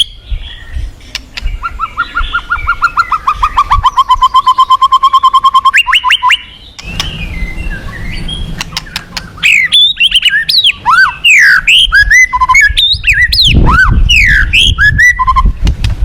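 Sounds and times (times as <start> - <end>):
bird singing varied song: 0.0 - 15.8.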